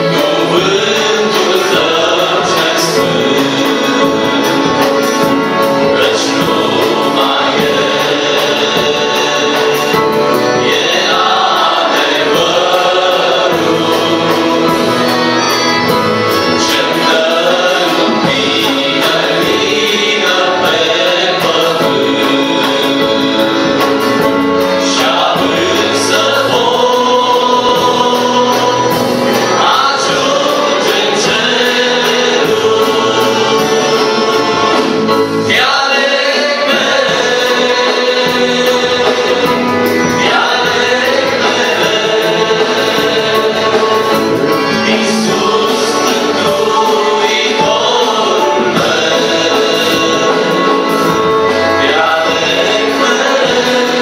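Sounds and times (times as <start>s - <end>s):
accordion: 0.0s - 54.0s
drum kit: 0.0s - 54.0s
male vocal group singing: 0.0s - 54.0s.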